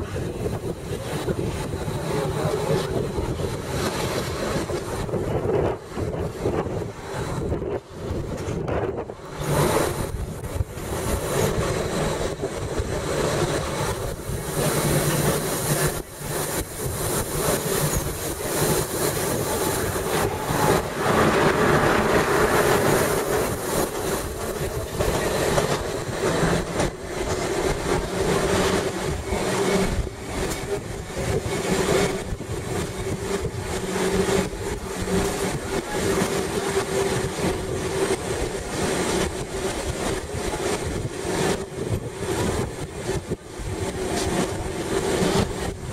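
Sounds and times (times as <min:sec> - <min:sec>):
train running gear hum: 0:00.0 - 0:45.9
wheels clicking on track: 0:00.0 - 0:45.9.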